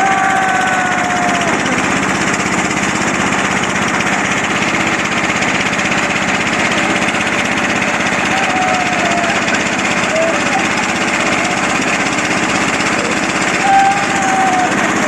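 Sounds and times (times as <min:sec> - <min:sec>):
motor boat engine running: 0:00.0 - 0:15.0.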